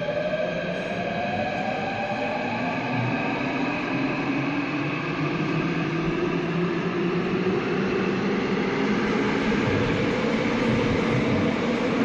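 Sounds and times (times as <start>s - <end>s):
subway train rumble and hiss: 0.0s - 12.0s.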